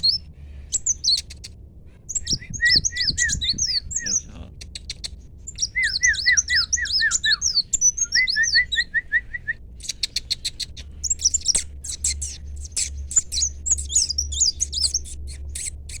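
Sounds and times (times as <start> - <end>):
sunbird singing: 0.0 - 1.5, 2.1 - 16.0.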